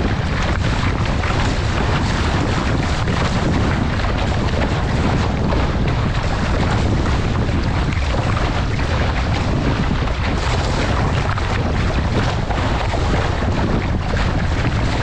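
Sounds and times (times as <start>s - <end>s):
water rushing and splashing along boat: 0.0s - 15.0s
wind buffeting microphone: 0.0s - 15.0s.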